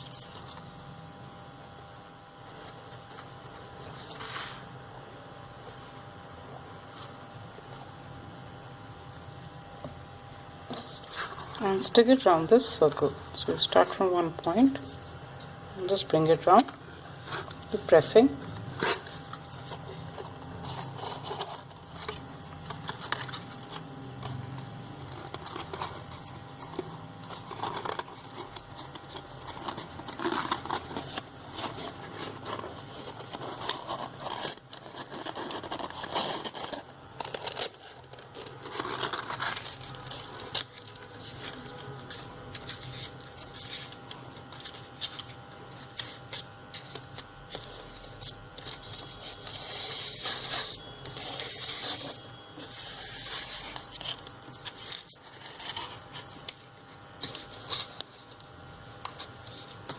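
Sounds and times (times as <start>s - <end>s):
card rustling and scraping: 2.5s - 5.8s, 9.8s - 59.9s.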